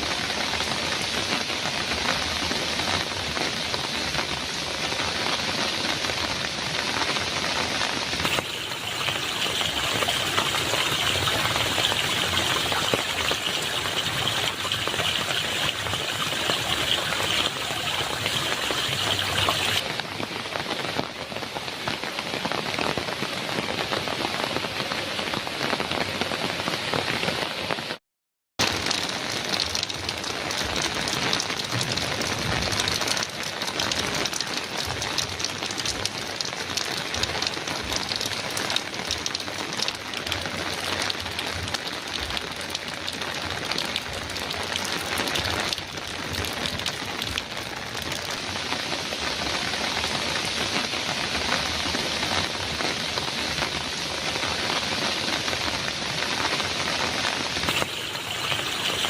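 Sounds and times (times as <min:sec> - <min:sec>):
heavy rain on a metal roof: 0:00.0 - 0:28.0, 0:28.6 - 0:59.0.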